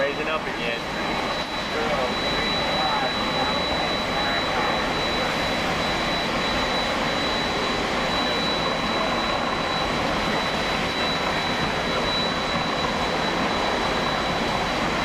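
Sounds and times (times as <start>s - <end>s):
thin high whine: 0.0s - 15.0s.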